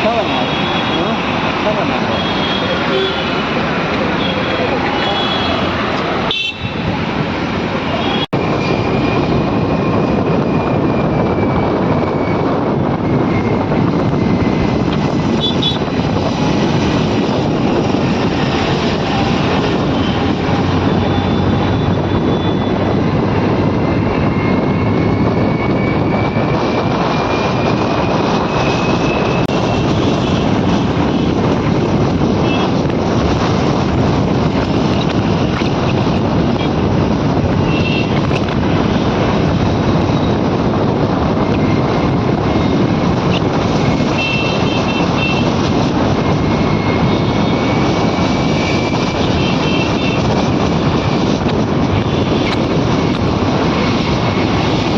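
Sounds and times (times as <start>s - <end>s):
moving vehicle rumbling: 0.0s - 54.9s.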